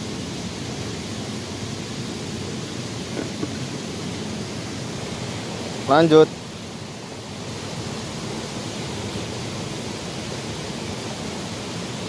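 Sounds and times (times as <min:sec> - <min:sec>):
shallow stream flowing: 0:00.0 - 0:12.0.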